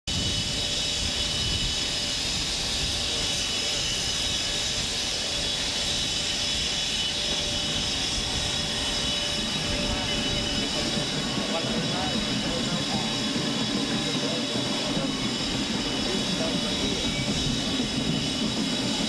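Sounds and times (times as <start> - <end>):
jet engines whining and rumbling: 0.1 - 19.0.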